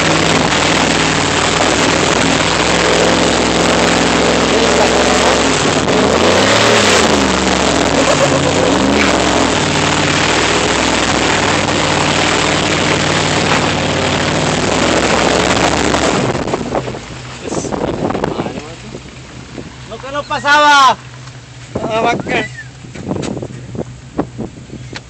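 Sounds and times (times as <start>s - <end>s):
vehicle engine revving: 0.0s - 25.0s.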